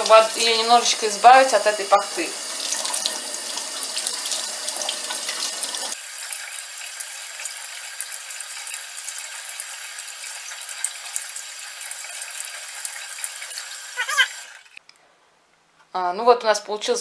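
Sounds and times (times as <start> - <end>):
tap water running into sink: 0.0 - 14.8.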